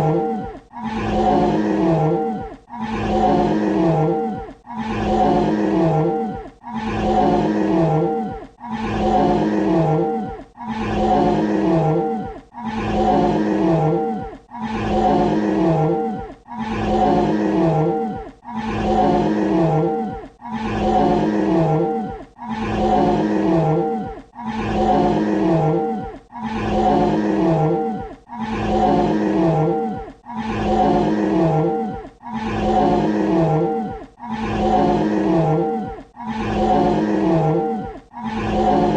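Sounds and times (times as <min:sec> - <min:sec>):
dinosaur roar: 0:00.0 - 0:38.9.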